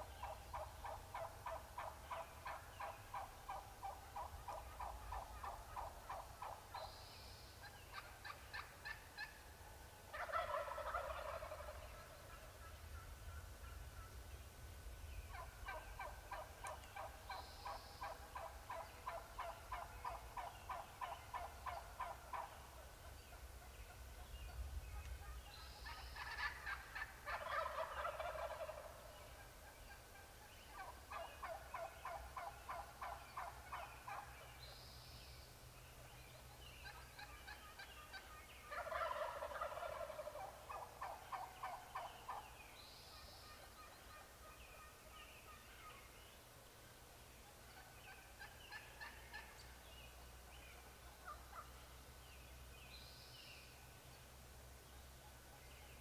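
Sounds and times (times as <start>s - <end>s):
wild turkeys gobbling: 0.0s - 14.2s, 15.1s - 34.6s, 36.0s - 46.4s, 47.3s - 52.0s.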